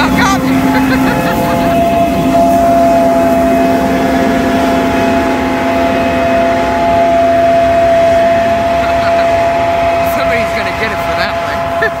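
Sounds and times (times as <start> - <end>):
combine harvester engine drone: 0.0 - 12.0
constant machine whine: 0.0 - 12.0.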